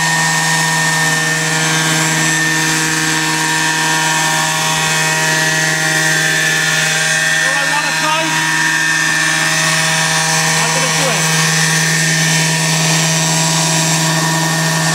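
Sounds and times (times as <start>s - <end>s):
model helicopter engine and rotor drone: 0.0s - 14.9s.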